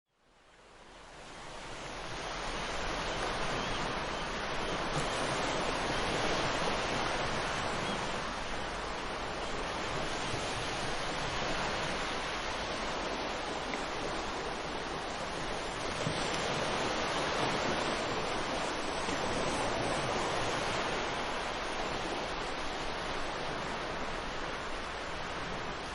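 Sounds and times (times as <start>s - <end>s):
ocean waves washing: 0.6s - 25.9s.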